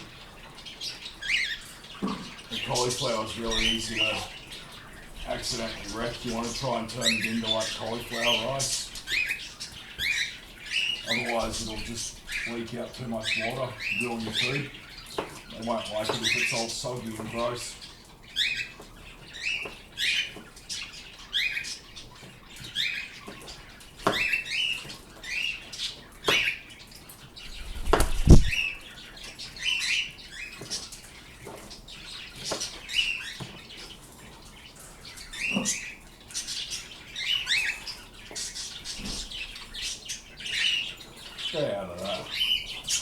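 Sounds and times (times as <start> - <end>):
pet birds chirping: 0.0 - 43.0.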